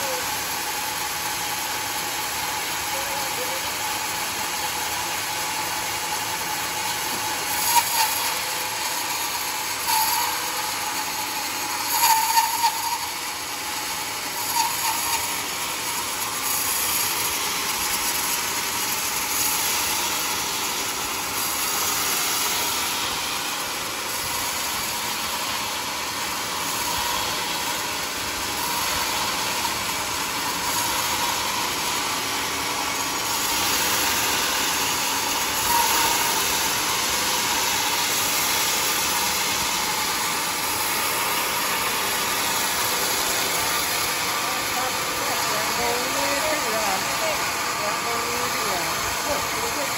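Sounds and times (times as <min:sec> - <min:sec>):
band saw blade cutting wood: 0:00.0 - 0:49.9.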